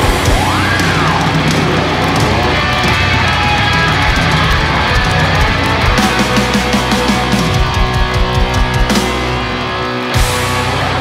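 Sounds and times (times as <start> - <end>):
driving drum kit: 0.0 - 11.0
electric guitars: 0.0 - 11.0
hard rock band playing live: 0.0 - 11.0.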